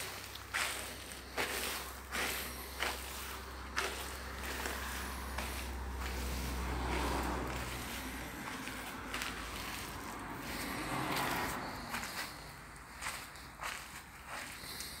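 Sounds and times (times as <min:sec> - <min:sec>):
footsteps on artificial turf: 0:00.0 - 0:15.0.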